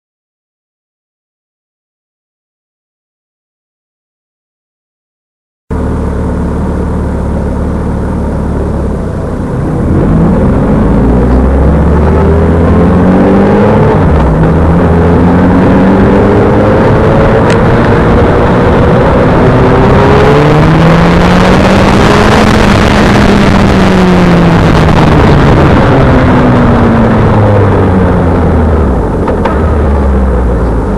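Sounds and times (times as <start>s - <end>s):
motorcycle engine accelerating: 5.7s - 30.9s.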